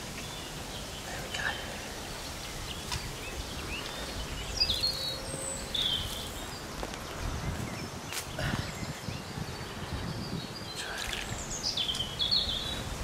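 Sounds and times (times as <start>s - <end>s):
outdoor background noise: 0.0s - 13.0s
wild birds chirping: 0.0s - 13.0s.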